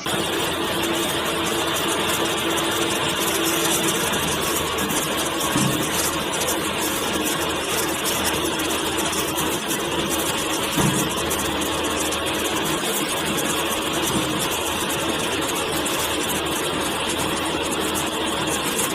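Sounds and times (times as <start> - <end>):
wheel loader engine running: 0.0 - 18.9.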